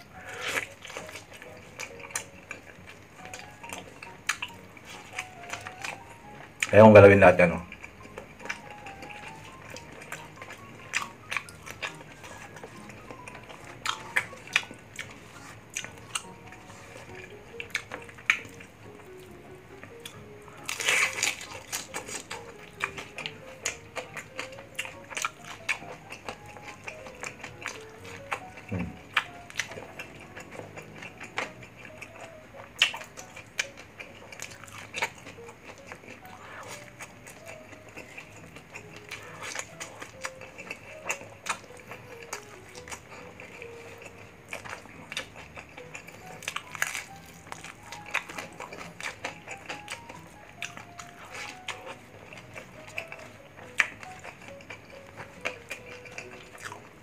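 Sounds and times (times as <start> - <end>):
crunchy chewing with mouth clicks: 0.0 - 57.0
quiet background music: 0.0 - 57.0.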